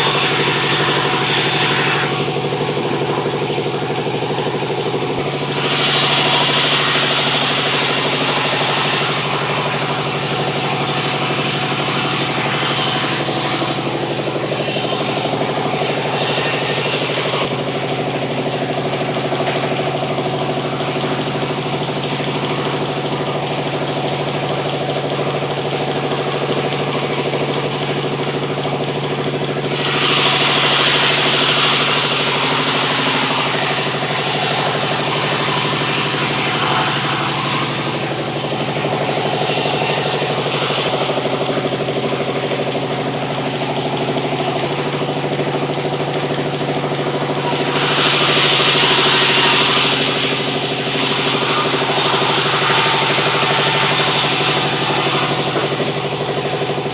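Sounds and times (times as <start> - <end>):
saw cutting wood: 0.0 - 56.9
sawmill machinery humming: 0.0 - 56.9.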